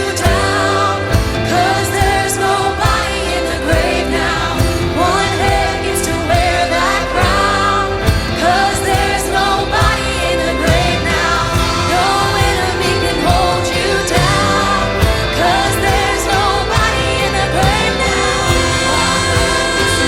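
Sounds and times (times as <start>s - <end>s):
band playing chords: 0.0s - 20.0s
people singing: 0.0s - 20.0s
steady drum beat: 0.2s - 20.0s.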